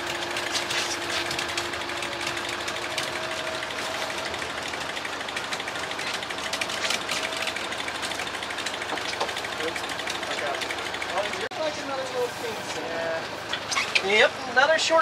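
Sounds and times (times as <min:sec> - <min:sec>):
boat engine running: 0:00.0 - 0:14.4.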